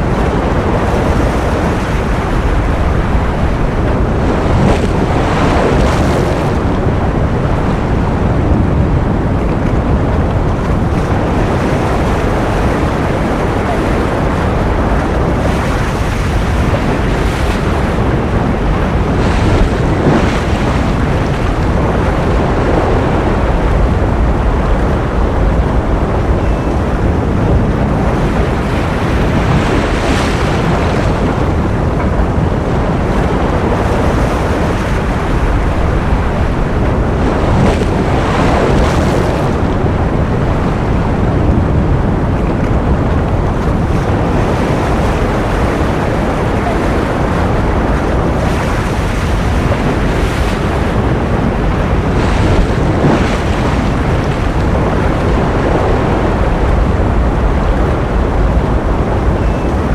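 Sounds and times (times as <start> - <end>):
ocean surf: 0.0 - 59.9
waves breaking: 0.0 - 59.9.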